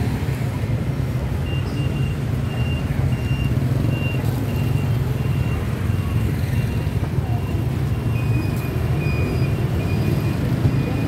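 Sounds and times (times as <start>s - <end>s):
motorbike traffic rumble: 0.0s - 11.0s.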